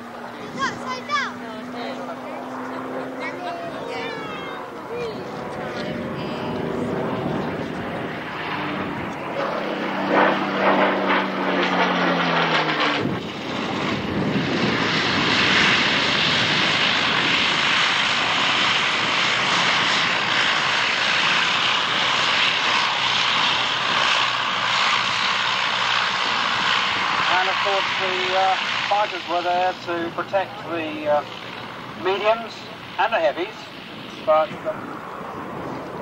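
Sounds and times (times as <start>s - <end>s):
propeller plane passing overhead: 0.0s - 36.0s
radial engines running: 0.0s - 36.0s.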